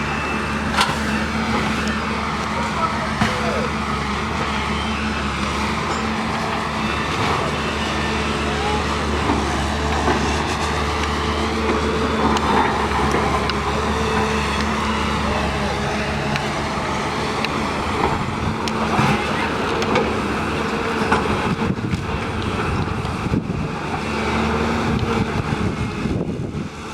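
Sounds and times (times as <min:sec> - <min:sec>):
faint voices: 0:00.0 - 0:22.2
heavy engine humming: 0:00.0 - 0:26.9
street noise: 0:00.0 - 0:26.9.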